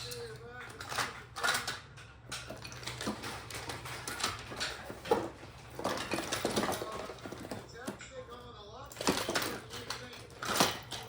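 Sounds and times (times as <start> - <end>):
toy train cars clattering: 0.0 - 11.0.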